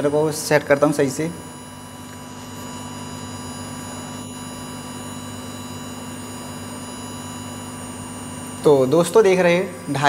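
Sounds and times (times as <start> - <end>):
amplifier low steady tone: 0.0 - 10.0
faint electrical buzz: 0.0 - 10.0.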